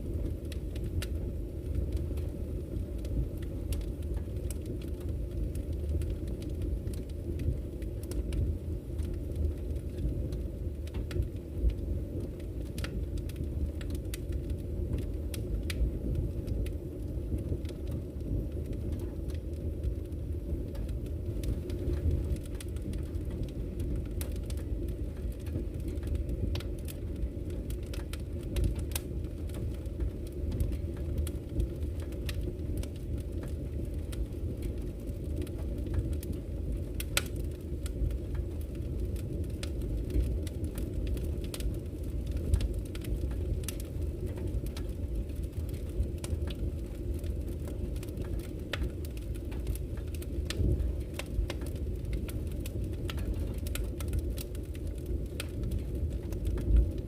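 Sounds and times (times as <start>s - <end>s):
wood fire burning: 0.0s - 57.0s.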